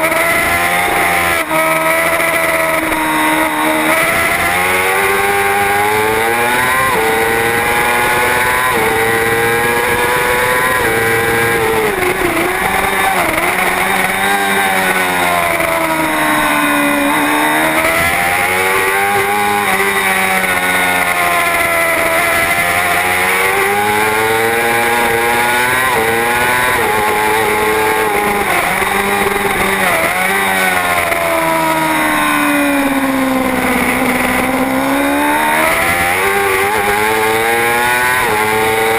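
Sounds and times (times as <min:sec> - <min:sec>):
racing motorcycle engine: 0:00.0 - 0:38.9.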